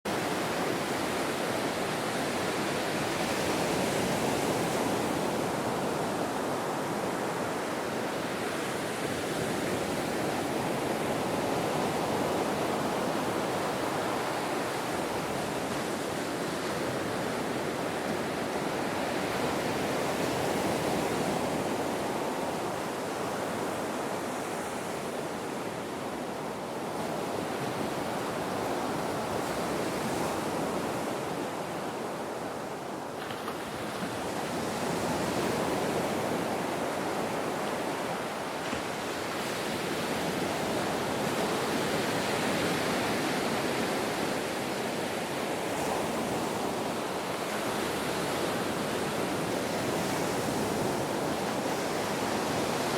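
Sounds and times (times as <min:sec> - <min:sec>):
waves breaking on a beach: 0:00.1 - 0:52.9.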